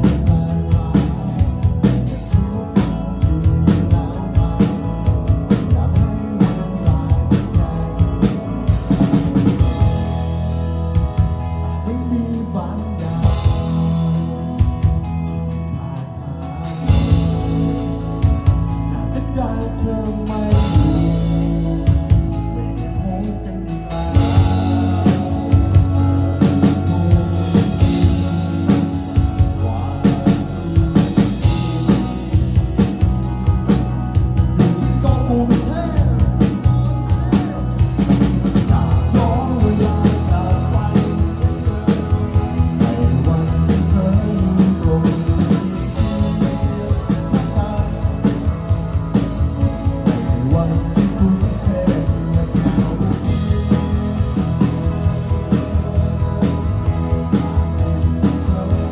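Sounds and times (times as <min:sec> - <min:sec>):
drum kit beat: 0:00.0 - 0:58.9
electric bass: 0:00.0 - 0:58.9
electric guitars: 0:00.0 - 0:58.9.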